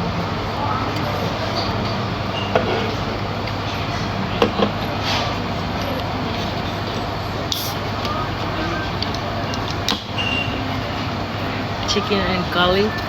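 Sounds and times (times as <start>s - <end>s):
steady rumbling background noise: 0.0s - 13.0s.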